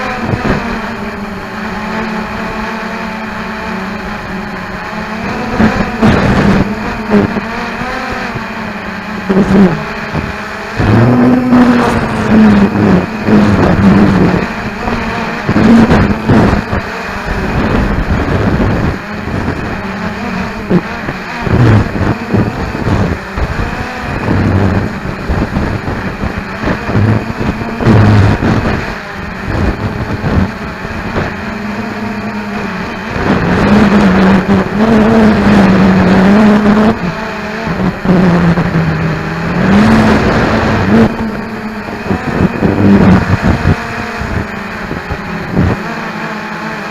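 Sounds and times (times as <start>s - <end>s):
wind buffeting microphone: 0.0s - 1.3s, 4.3s - 46.0s
drone motors whining: 0.0s - 46.9s.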